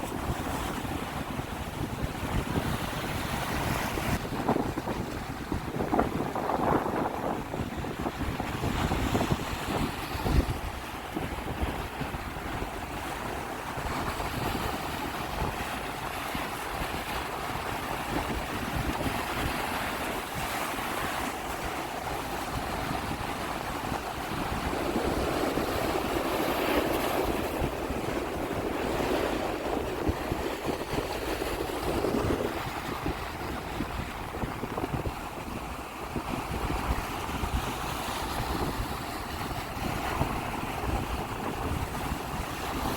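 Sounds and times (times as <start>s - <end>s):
sea waves breaking on shore: 0.0s - 42.9s
wind buffeting microphone: 0.0s - 42.9s.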